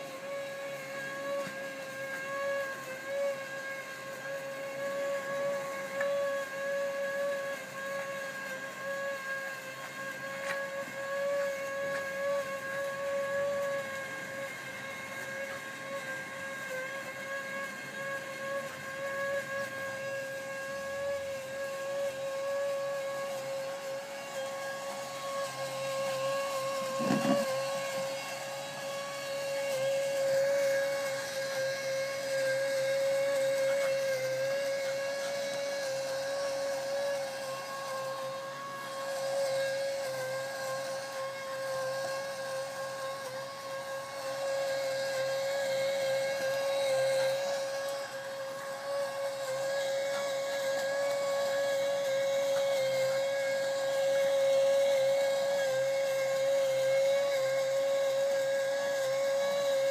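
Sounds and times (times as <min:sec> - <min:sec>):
small electric motor whining: 0:00.0 - 0:59.9.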